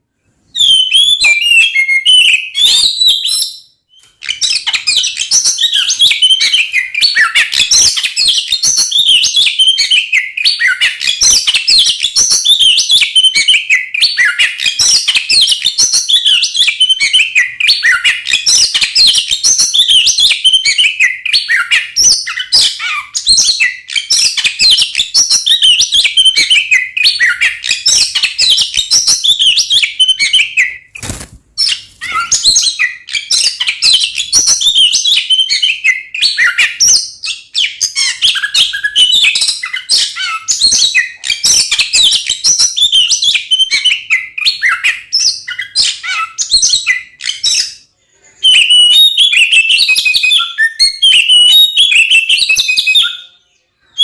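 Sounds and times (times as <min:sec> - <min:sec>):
bird singing chirps and whistles: 0:00.4 - 0:54.0.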